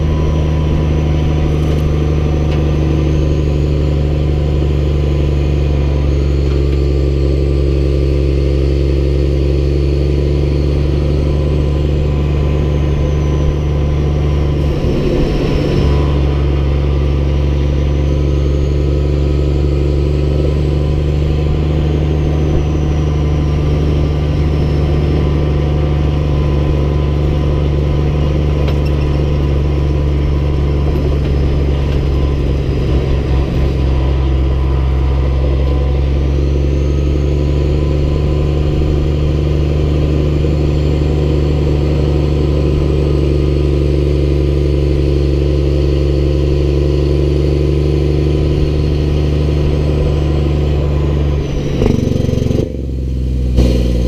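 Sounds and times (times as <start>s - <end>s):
diesel truck engine droning: 0.0s - 54.0s.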